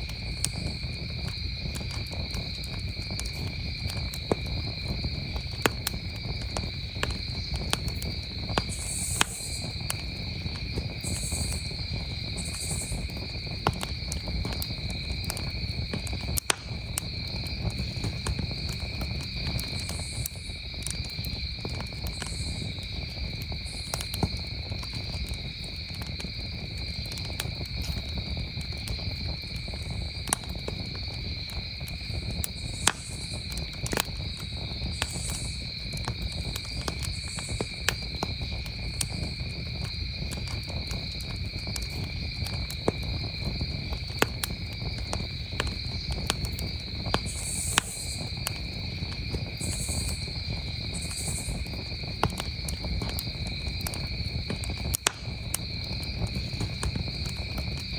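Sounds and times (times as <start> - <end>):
campfire crackling: 0.0 - 57.9
crickets trilling: 0.0 - 57.9.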